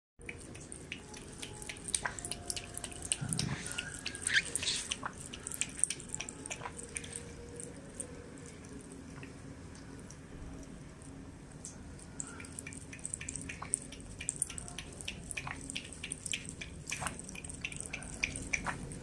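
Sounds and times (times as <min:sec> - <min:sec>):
cat lapping water: 0:00.2 - 0:19.0.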